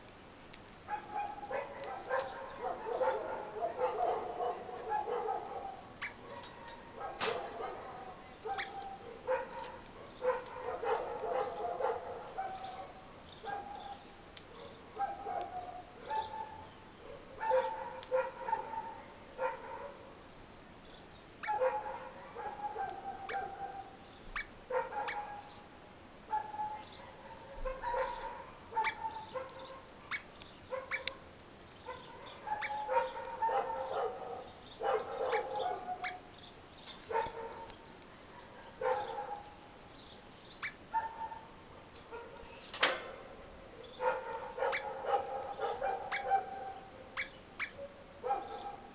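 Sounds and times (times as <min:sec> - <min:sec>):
parrot calls and chatter: 0:00.6 - 0:19.6, 0:20.9 - 0:25.6, 0:26.4 - 0:42.9, 0:43.8 - 0:48.9.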